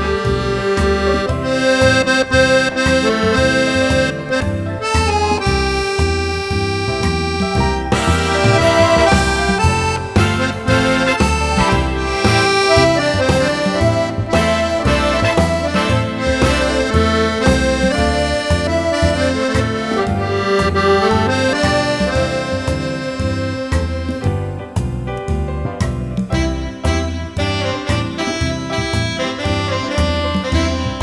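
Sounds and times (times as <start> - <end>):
accordion playing: 0.0 - 24.8, 26.2 - 31.0.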